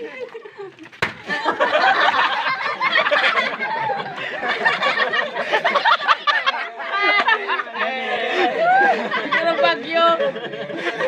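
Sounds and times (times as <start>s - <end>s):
young men laughing and shouting: 0.0s - 11.0s.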